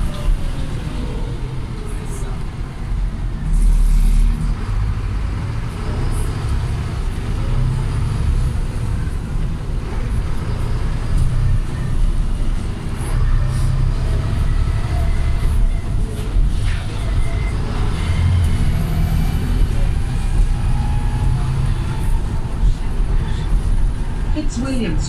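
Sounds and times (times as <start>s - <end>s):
bus engine drone: 0.0s - 25.0s
road rumble: 0.0s - 25.0s.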